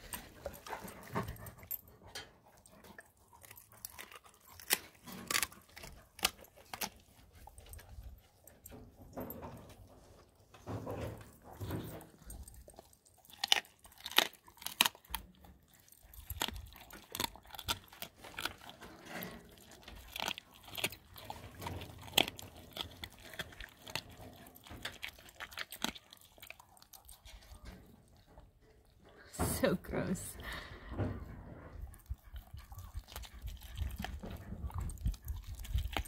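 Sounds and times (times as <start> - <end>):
dog crunching and chewing: 0.0 - 29.2, 30.4 - 36.0.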